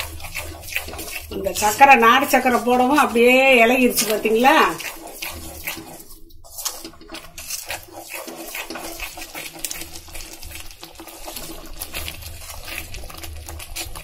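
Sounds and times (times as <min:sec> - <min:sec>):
spoon stirring and scraping: 0:00.0 - 0:14.0
syrup bubbling in a pan: 0:00.0 - 0:14.0.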